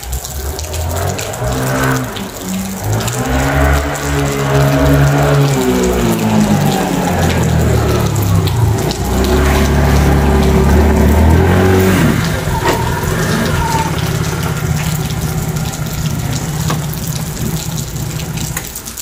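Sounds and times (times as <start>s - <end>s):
small scooter engine: 0.0s - 19.0s.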